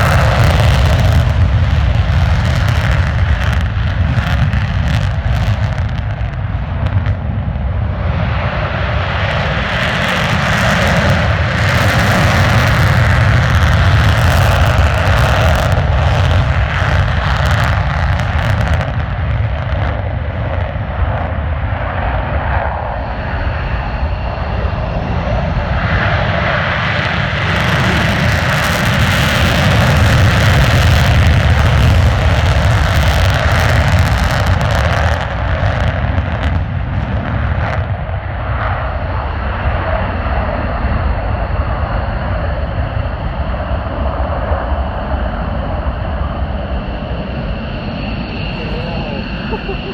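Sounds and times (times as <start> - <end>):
crackling jet noise: 0.0 - 49.9
fighter jets passing: 0.0 - 49.9.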